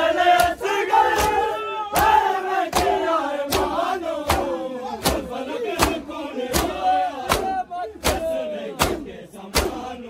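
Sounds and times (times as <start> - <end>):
men chanting in unison: 0.0 - 10.0.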